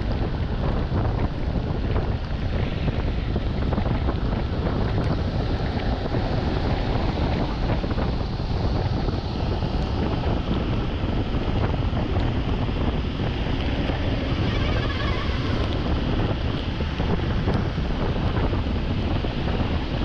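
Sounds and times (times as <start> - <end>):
tyres hissing on wet road: 0.0 - 20.0
wind buffeting microphone: 0.0 - 20.0.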